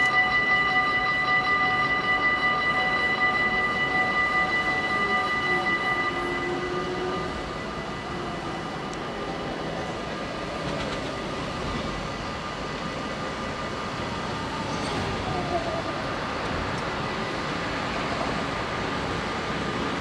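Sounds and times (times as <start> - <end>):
level crossing warning bells: 0.0 - 20.0
rail work machine rumbling: 0.0 - 20.0.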